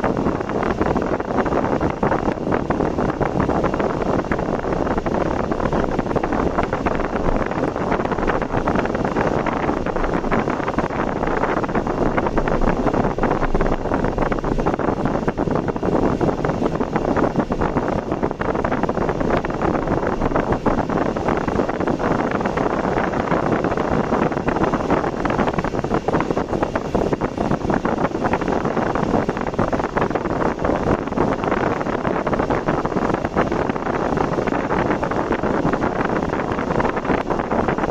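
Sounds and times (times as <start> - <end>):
car road and wind noise: 0.0 - 37.9.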